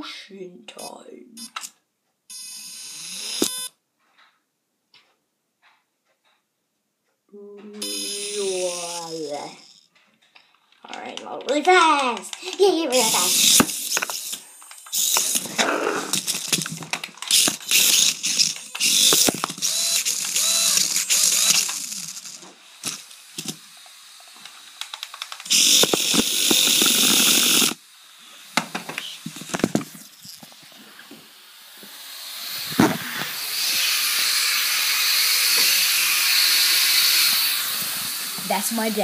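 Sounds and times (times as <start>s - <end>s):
toy car motor whirring: 0.8s - 3.8s, 7.8s - 39.0s.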